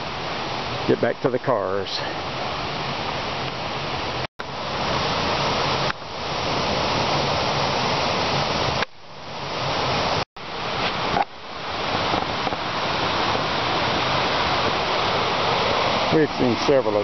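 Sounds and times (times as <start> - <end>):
creek rushing over rocks: 0.0 - 17.0.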